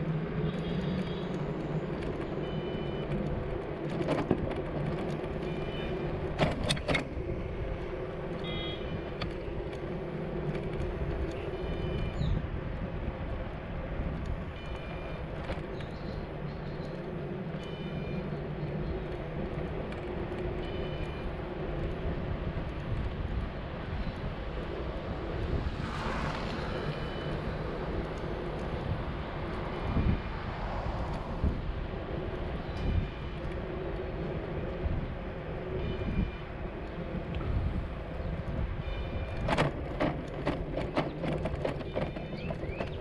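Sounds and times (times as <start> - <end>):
low rumble of vehicle: 0.0 - 43.0.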